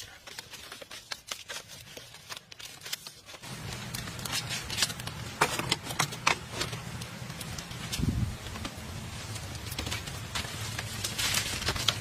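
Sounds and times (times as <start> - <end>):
bamboo strips clicking and rattling: 0.0 - 12.0.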